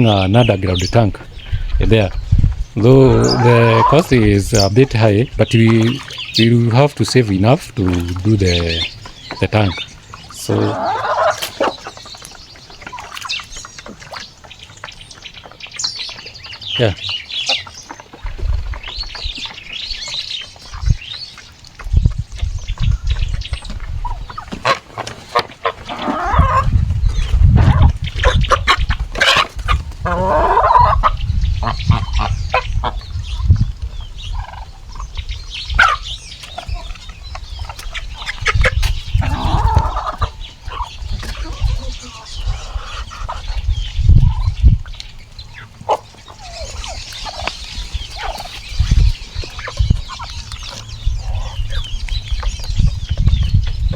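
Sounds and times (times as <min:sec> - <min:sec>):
poultry calling: 0:02.7 - 0:53.9.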